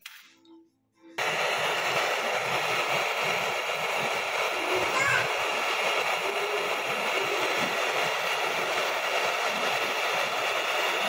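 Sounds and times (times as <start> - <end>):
gas torch flame hissing: 1.2 - 11.0.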